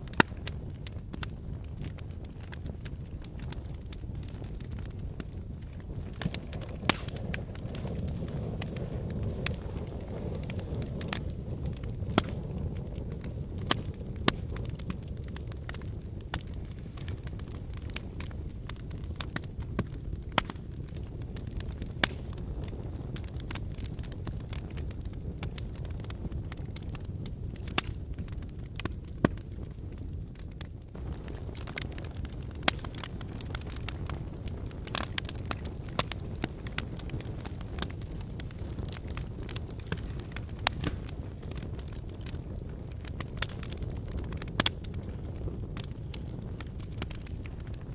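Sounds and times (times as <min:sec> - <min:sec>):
fire flames rumbling: 0:00.0 - 0:47.9
wood fire crackling and popping: 0:00.0 - 0:47.9.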